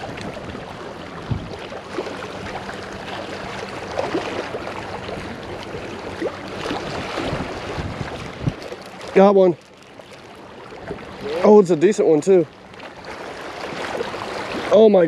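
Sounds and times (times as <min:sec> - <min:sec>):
water and wind hiss: 0:00.0 - 0:15.0.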